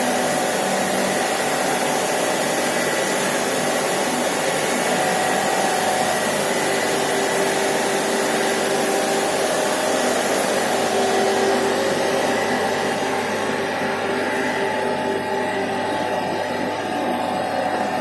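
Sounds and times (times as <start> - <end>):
pool pumps whirring: 0.0 - 18.0
steady hum tones: 0.0 - 18.0.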